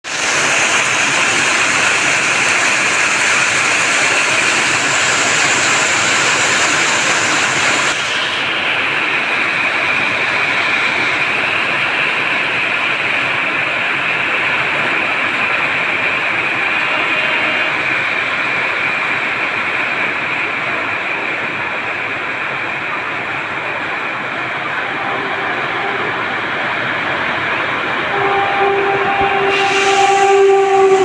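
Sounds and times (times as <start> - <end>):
heavy rain: 0.0 - 31.0
train running fast: 0.0 - 31.0.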